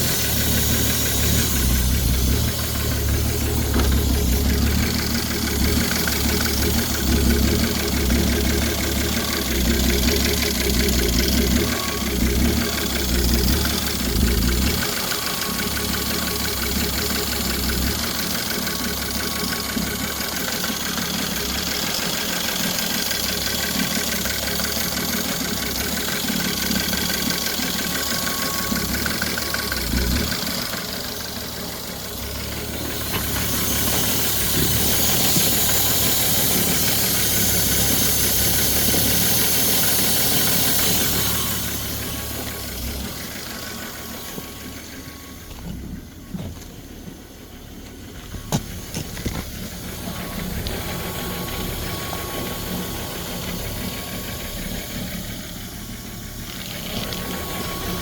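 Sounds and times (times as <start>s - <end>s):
car engine knocking: 0.0s - 58.0s.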